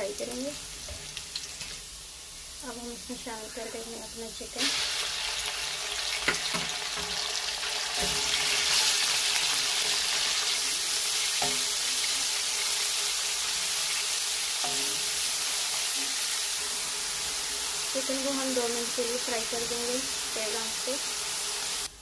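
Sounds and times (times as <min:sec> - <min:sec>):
chicken sizzling in hot oil: 0:00.0 - 0:22.0.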